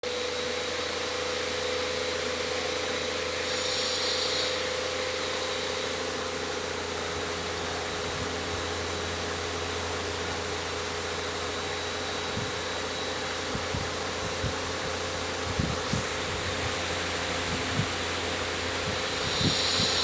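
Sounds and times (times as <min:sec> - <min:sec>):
electric fan air whooshing: 0:00.0 - 0:20.0
fan motor hum: 0:00.0 - 0:20.0.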